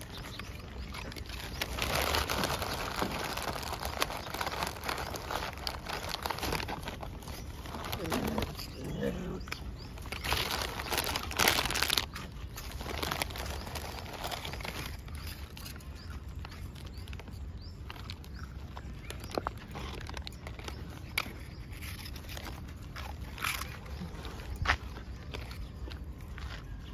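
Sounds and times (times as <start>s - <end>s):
crinkling: 0.0s - 26.9s
dogs crunching biscuits: 0.0s - 26.9s.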